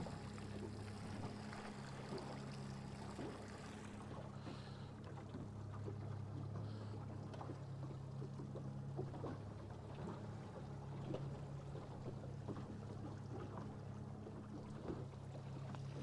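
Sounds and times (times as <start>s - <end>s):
outboard motor humming: 0.0s - 16.0s
water splashing at stern: 0.0s - 16.0s.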